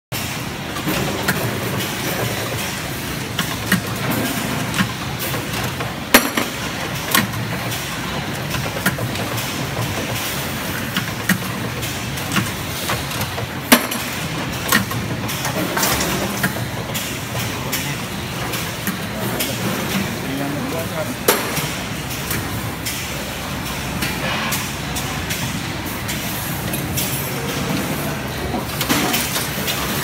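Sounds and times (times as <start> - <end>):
factory machinery din: 0.1 - 30.0.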